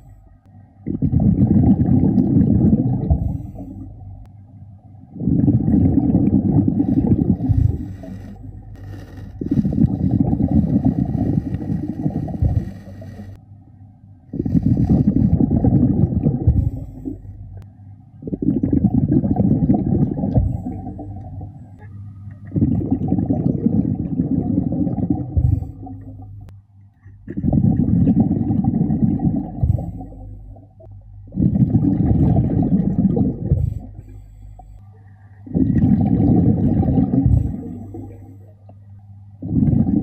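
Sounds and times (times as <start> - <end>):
regulator bubbles underwater: 0.0 - 4.4, 5.0 - 13.4, 14.3 - 40.0.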